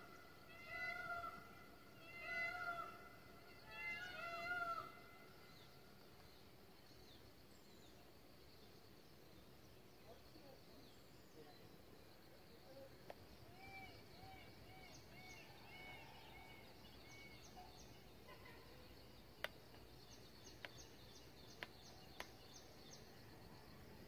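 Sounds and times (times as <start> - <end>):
faint birdsong: 0.0 - 24.0.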